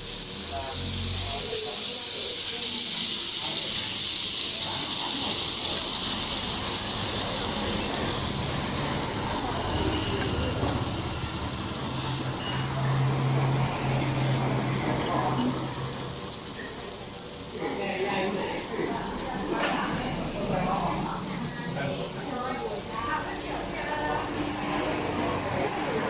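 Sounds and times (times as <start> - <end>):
batter sizzling in a pan: 0.0 - 26.0.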